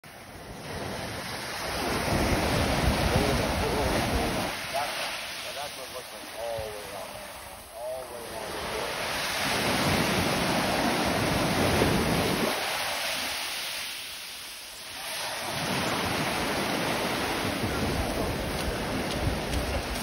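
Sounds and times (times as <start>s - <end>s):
ocean waves breaking on beach: 0.0s - 20.0s
wind on microphone: 0.2s - 4.9s, 6.4s - 13.4s, 15.0s - 20.0s.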